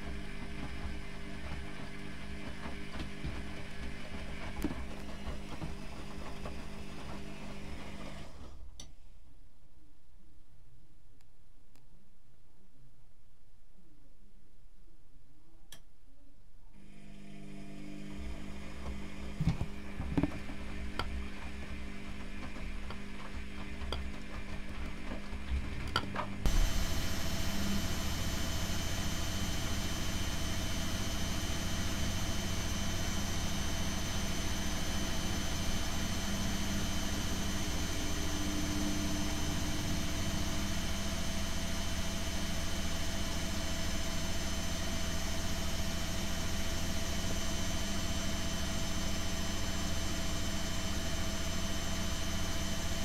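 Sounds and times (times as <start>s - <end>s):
washing machine motor whine: 0.0s - 8.7s, 16.8s - 53.0s.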